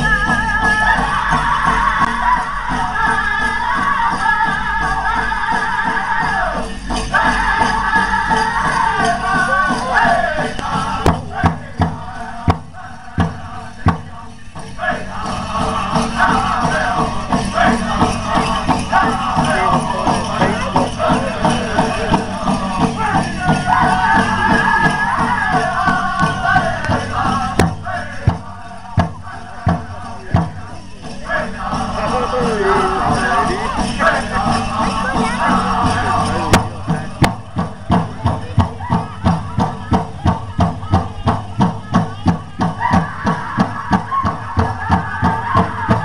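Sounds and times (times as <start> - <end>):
drum strikes: 0.0 - 46.0
group singing in high voices: 0.0 - 46.0
jingling bells: 0.0 - 46.0.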